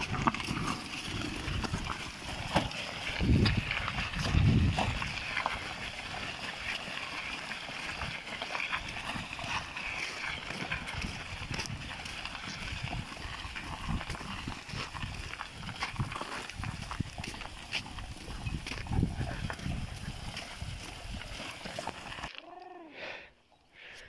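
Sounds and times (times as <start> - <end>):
wooden wagons rattling: 0.0 - 22.4
wheels crunching on stones: 0.0 - 22.7
hooves clopping on gravel: 0.0 - 22.8.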